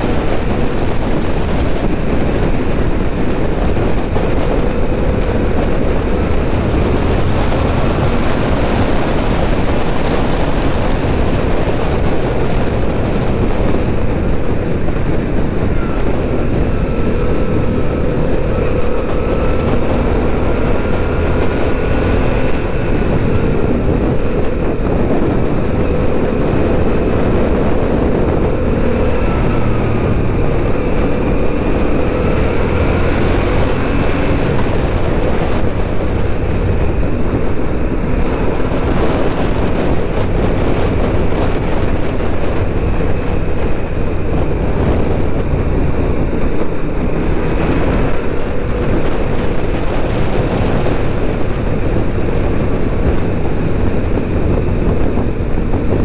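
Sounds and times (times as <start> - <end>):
motorcycle engine under load: 0.0 - 56.0
wind rush on microphone: 0.0 - 56.0.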